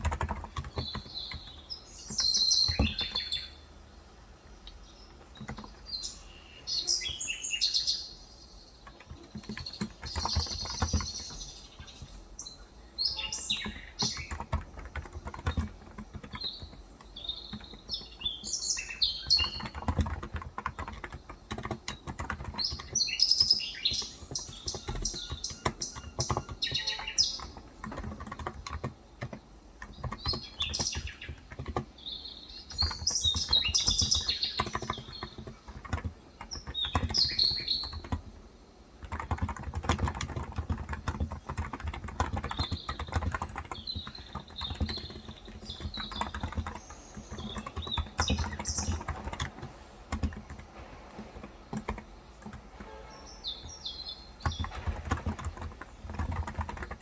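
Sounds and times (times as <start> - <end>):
keyboard typing: 0.0 - 3.5, 4.6 - 8.0, 8.6 - 57.0
birds chirping: 0.0 - 57.0.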